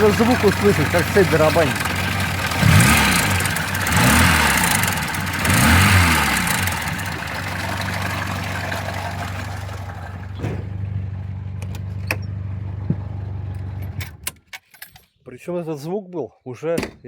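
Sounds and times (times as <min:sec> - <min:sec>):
car engine revving and idling: 0:00.0 - 0:14.2.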